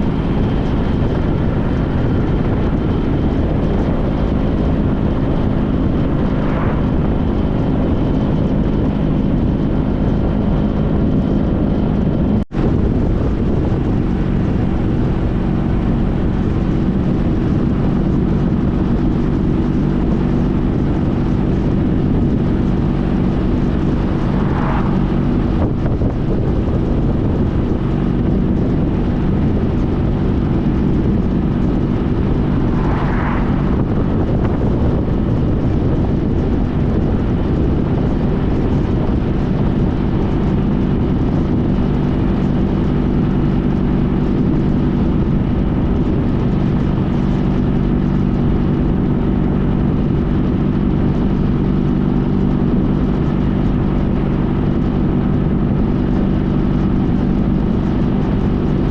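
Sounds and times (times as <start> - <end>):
motorcycle engine cruising: 0.0 - 58.9
road noise: 0.0 - 58.9
wind noise: 0.0 - 58.9.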